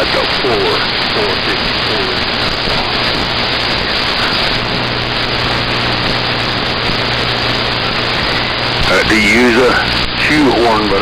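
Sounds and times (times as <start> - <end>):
low hum: 0.0 - 11.0
radio static hiss: 0.0 - 11.0.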